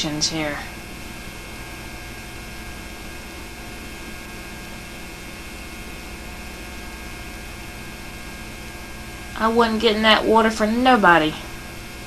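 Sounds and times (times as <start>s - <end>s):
electrical mains hum: 0.0s - 12.0s
tape hiss: 0.0s - 12.0s.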